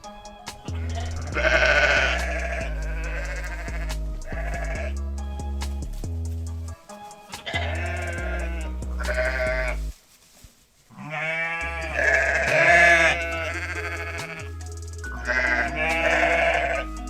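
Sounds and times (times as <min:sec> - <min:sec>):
background music with low bass: 0:00.0 - 0:10.0, 0:11.3 - 0:17.0.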